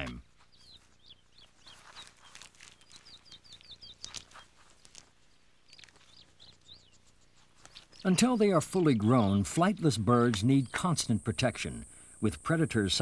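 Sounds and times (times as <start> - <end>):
bird chick peeping: 0.0 - 12.5.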